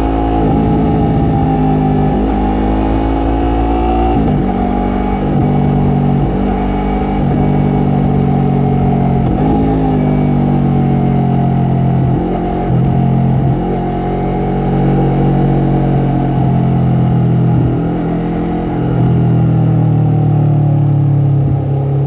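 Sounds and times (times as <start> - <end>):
motorcycle engine and exhaust: 0.0 - 22.0.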